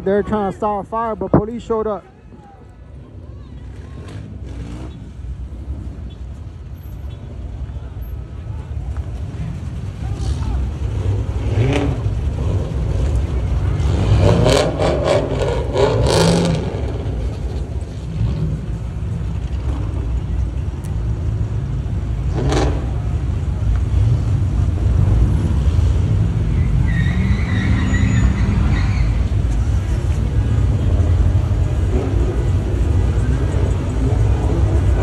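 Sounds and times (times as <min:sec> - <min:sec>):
car engines rumbling and revving: 0:00.0 - 0:35.0.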